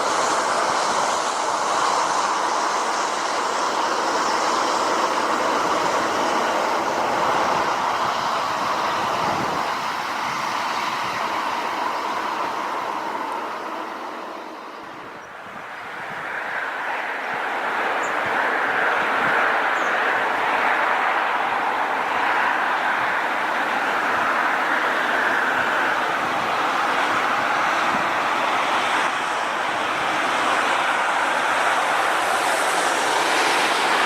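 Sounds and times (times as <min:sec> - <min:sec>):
floodwater rushing: 0:00.0 - 0:15.1, 0:15.9 - 0:34.0.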